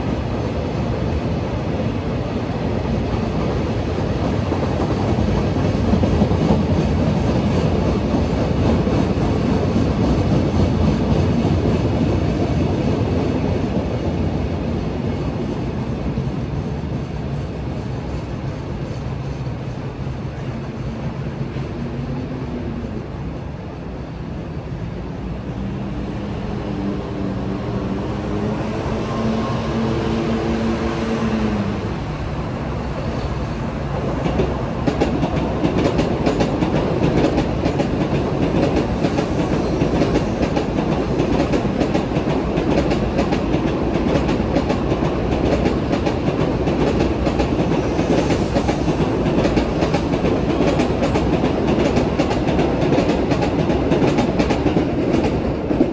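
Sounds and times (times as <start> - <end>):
freight train rolling on rails: 0.0 - 55.9
high-speed train rumble and clatter: 0.0 - 55.9.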